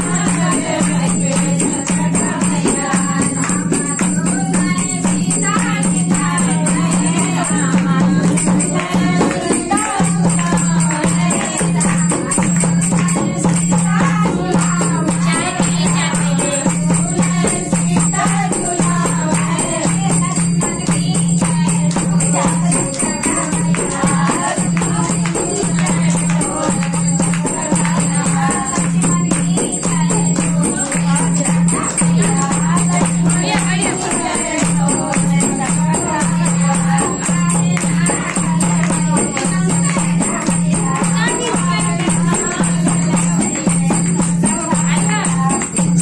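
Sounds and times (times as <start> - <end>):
dholak drum beat: 0.0 - 46.0
hand clapping: 0.0 - 46.0
women singing folk song: 0.0 - 46.0.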